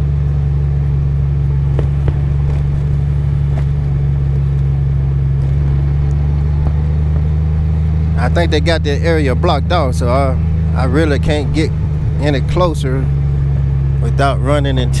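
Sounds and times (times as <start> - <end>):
motorcycle engine humming: 0.0 - 15.0.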